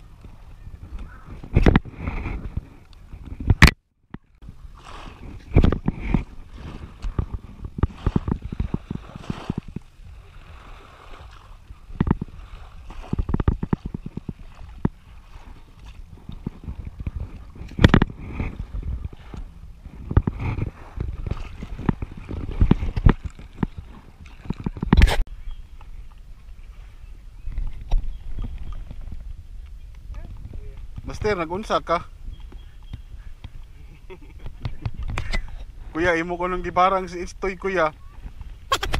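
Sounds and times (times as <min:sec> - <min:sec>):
water sloshing at shoreline: 0:00.0 - 0:38.9
wind buffeting microphone: 0:00.0 - 0:38.9.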